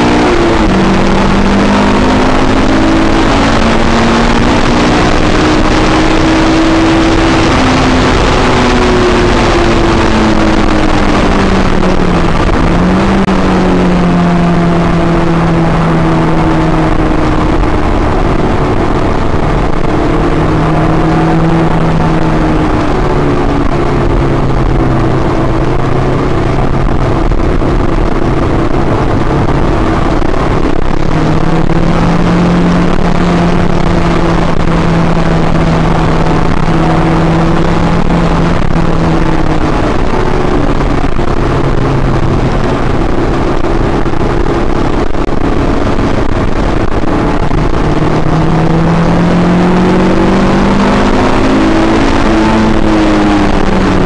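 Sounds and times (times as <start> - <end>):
car engine from inside cabin: 0.0 - 54.0
road and tyre noise: 0.0 - 54.0.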